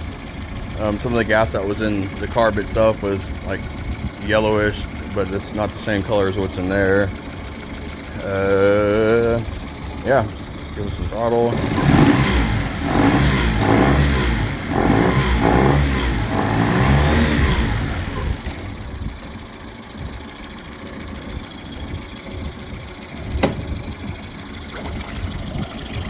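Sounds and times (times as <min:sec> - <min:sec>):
outboard motor revving and idling: 0:00.0 - 0:26.0.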